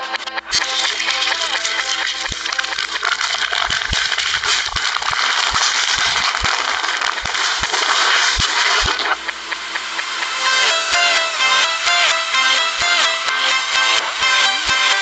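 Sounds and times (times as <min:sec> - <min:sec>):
reversed soda hiss: 0:00.6 - 0:14.9.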